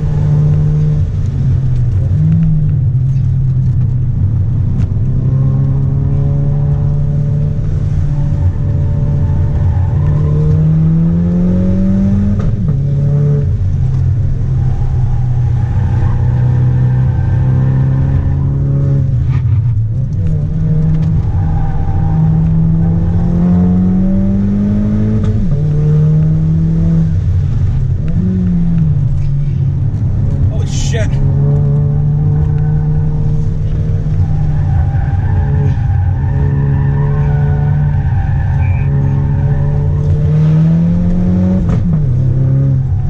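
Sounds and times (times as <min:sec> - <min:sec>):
car engine accelerating: 0:00.0 - 0:43.0.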